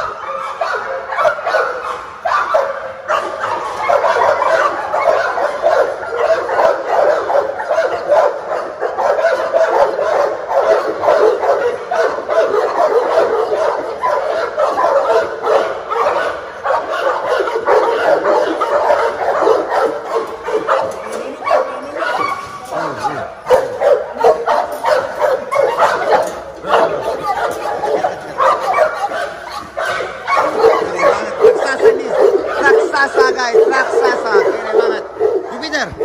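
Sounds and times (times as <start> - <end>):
dogs barking and yipping: 0.0 - 36.0.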